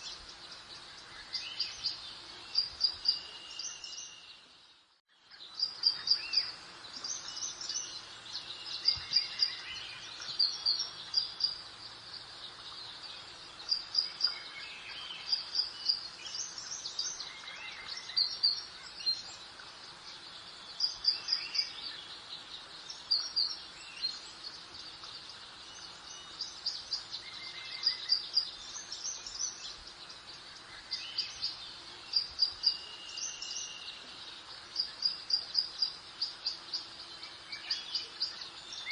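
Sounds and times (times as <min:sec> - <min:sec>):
soft background hiss: 0:00.0 - 0:38.9
songbirds chirping and singing: 0:00.0 - 0:38.9.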